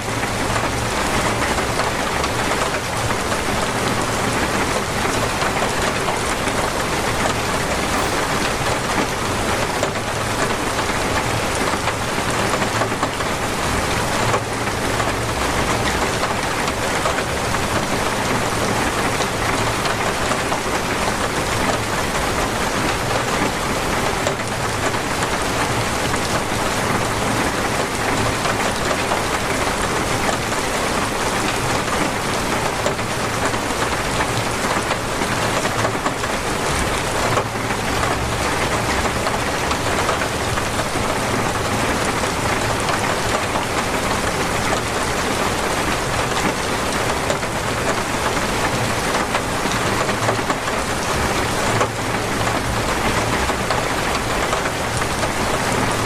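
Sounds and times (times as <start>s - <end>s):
torrential rain pouring: 0.0s - 56.0s.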